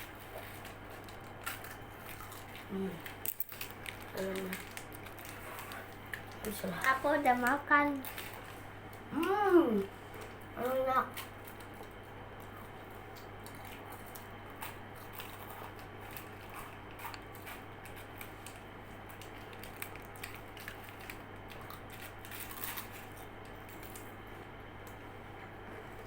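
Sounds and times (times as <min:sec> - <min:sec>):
snack being chewed: 0:00.0 - 0:09.1, 0:11.1 - 0:25.0.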